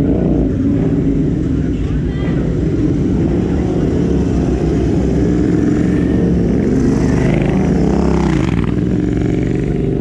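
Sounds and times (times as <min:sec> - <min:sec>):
motorcycles riding past: 0:00.0 - 0:10.0.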